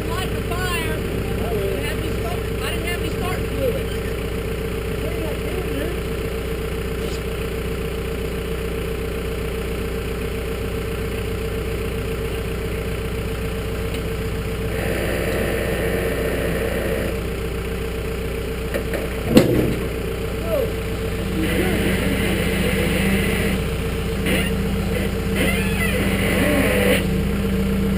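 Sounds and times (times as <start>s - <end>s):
engine idling: 0.0s - 27.9s.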